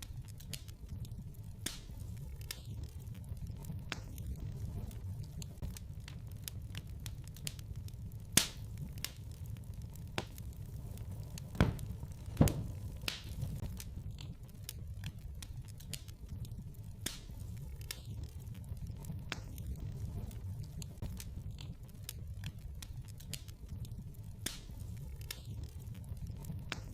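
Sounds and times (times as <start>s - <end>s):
sharp pops of fire: 0.0s - 26.9s
wood fire crackling: 0.0s - 26.9s.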